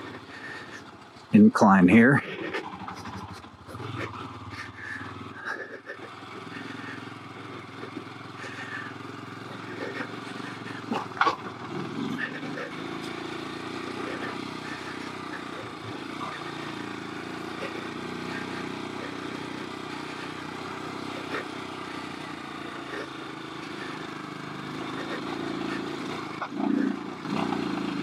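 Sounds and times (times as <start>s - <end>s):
motorcycle engine climbing: 0.0s - 28.0s.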